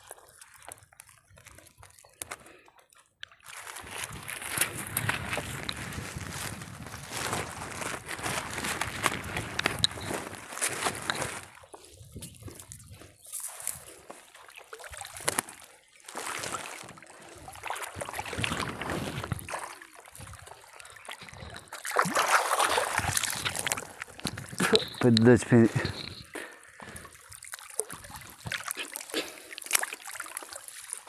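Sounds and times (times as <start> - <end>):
water splashing and trickling: 0.0 - 31.0
wet net being hauled: 3.4 - 31.0.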